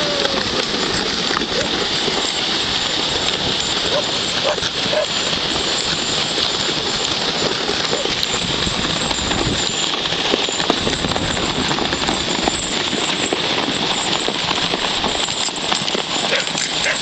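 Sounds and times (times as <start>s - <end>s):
hoofbeats crunching in snow: 0.0s - 17.0s
sled sliding on snow: 0.0s - 17.0s.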